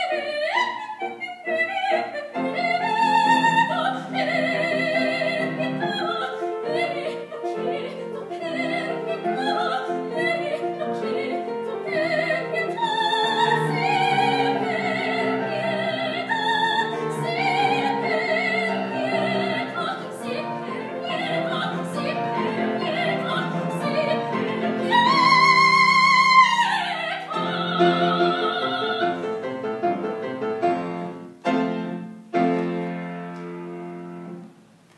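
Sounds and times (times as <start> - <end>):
woman singing opera: 0.0 - 29.6
grand piano: 0.0 - 34.9.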